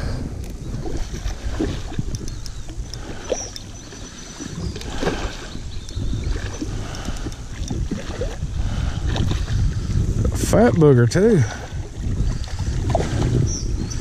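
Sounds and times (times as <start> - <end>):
water lapping against kayak hull: 0.0 - 14.0
wind rumbling on microphone: 0.0 - 14.0.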